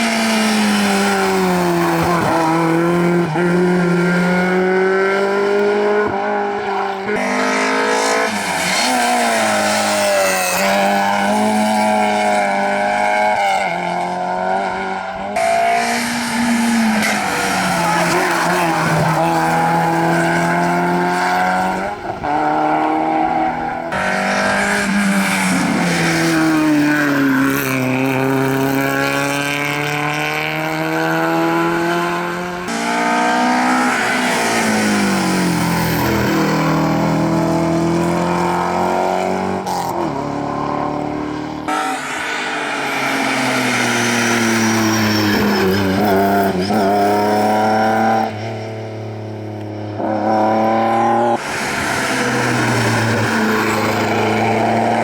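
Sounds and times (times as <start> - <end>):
rally car engines revving hard: 0.0 - 55.0.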